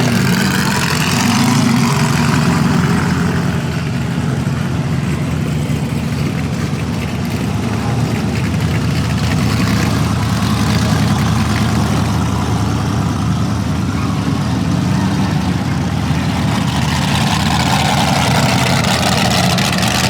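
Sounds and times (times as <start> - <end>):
vehicle engine idling low: 0.0 - 20.0.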